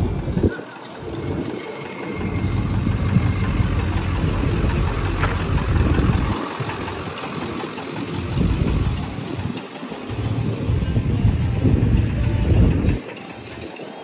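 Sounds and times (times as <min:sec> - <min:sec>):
wind buffeting microphone: 0:00.0 - 0:13.6
pickup truck idling: 0:01.3 - 0:13.7.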